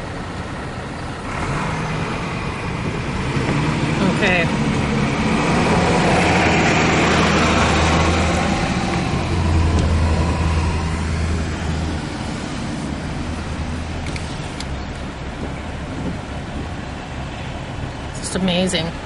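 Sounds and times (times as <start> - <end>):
car engine hum: 0.0 - 19.0
road and tyre noise: 0.0 - 19.0.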